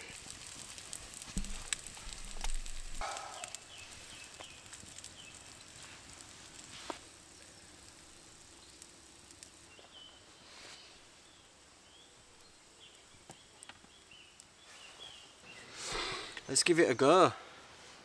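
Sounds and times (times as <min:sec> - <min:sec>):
bacon sizzling in a pan: 0:00.0 - 0:16.1
campfire crackles: 0:00.0 - 0:18.0.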